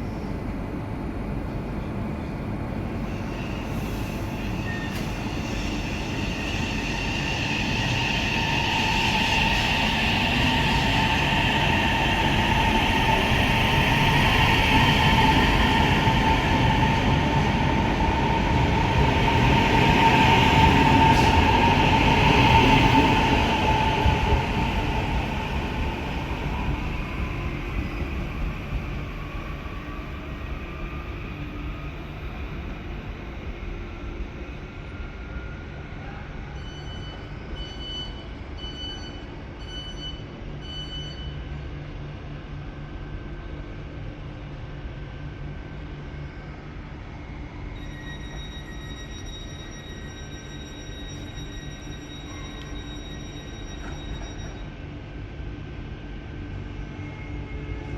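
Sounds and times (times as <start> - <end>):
passenger train rumble: 0.0 - 57.9.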